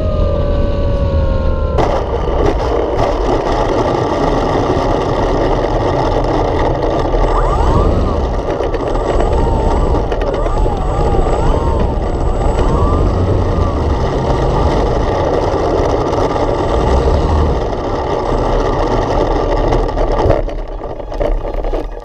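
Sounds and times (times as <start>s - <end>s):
wind rush: 0.0s - 21.2s
low wind buffeting: 0.0s - 22.0s
model plane motor and propeller: 0.0s - 22.0s.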